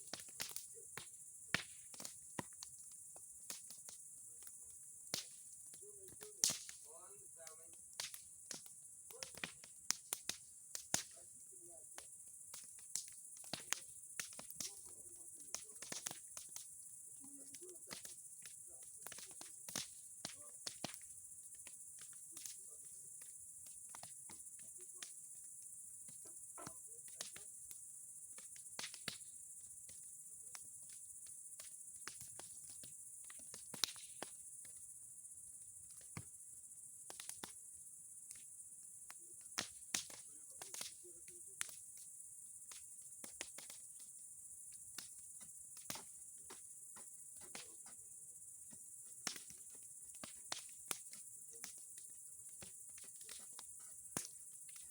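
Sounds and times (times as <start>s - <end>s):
bonfire crackling and popping: 0.0s - 54.9s
crickets chirring: 0.0s - 54.9s.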